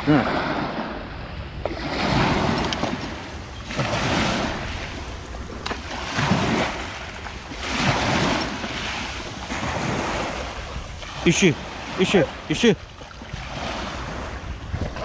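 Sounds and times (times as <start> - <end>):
waves washing over pebbles: 0.0 - 15.0.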